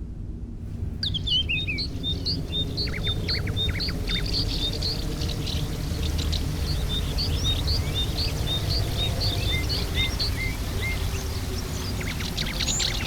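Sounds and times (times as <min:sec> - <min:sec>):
low rushing noise: 0:00.7 - 0:13.0
birds chirping and whistling: 0:01.0 - 0:13.0.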